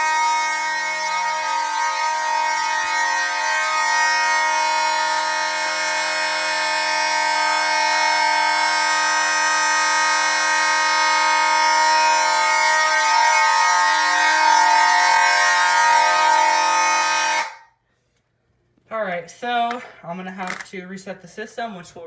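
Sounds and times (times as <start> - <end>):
fire alarm horns sounding: 0.0 - 17.7.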